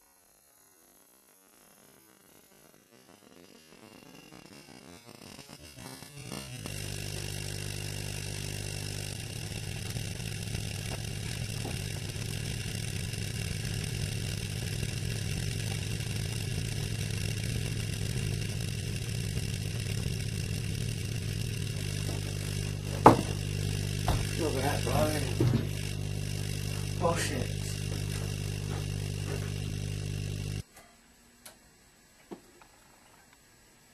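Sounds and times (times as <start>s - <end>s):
transformer mains hum and buzz: 0.0s - 33.9s
sharp electrical crack: 1.3s - 30.6s.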